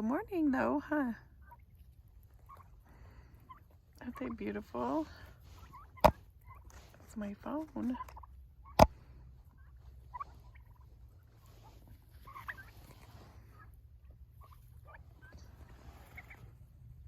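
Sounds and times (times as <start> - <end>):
turkeys calling softly: 1.2 - 17.0.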